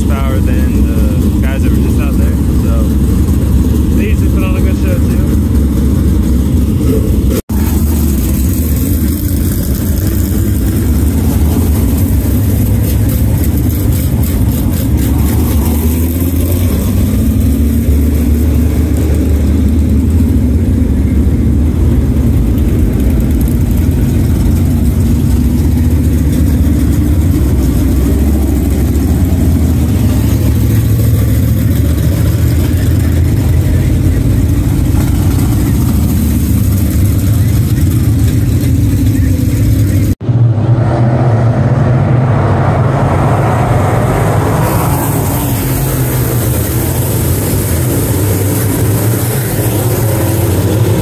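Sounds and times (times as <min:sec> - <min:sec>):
race car engines rumbling: 0:00.0 - 0:51.0.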